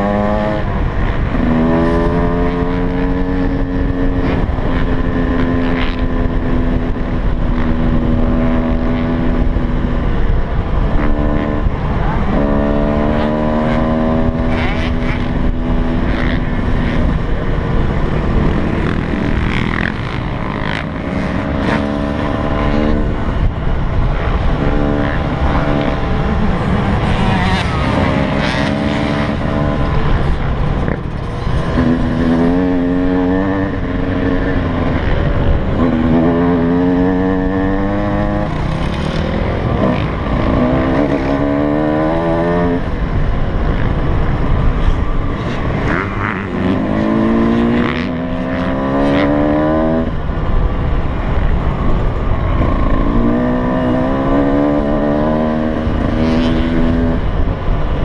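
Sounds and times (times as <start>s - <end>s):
dirt bike engine revving: 0.0s - 50.2s
wind rumbling on microphone: 0.0s - 58.0s.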